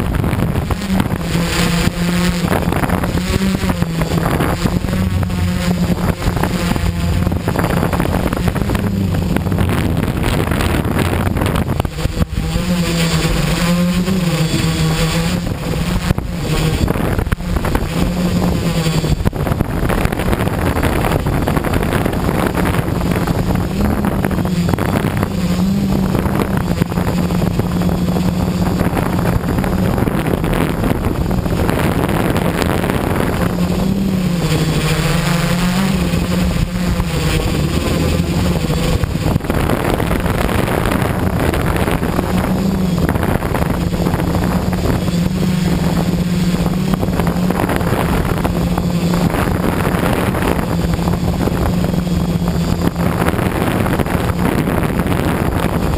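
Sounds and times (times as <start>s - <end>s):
drone propellers buzzing: 0.0s - 55.9s
wind noise on microphone: 0.0s - 55.9s.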